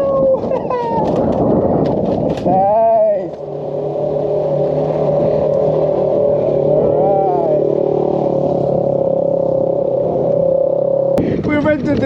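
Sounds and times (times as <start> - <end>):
motor running steadily: 1.5 - 11.4.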